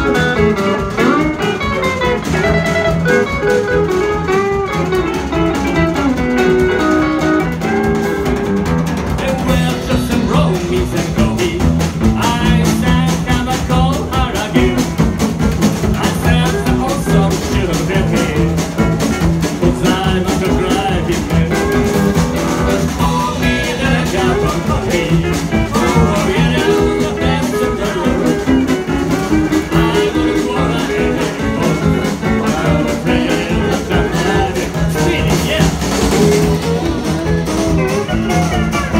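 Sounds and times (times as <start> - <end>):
steel guitar: 0.0 - 11.5, 16.0 - 38.9
drum kit: 0.0 - 38.9
electric guitar: 0.0 - 38.9
upright bass: 0.0 - 38.9.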